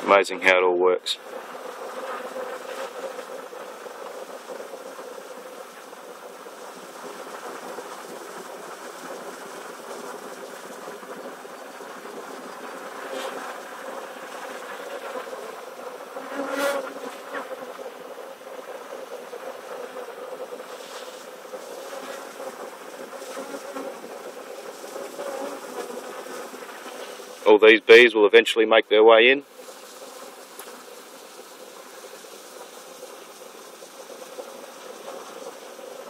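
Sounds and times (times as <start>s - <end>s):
bee swarm buzzing: 0.0s - 28.1s, 29.4s - 36.0s.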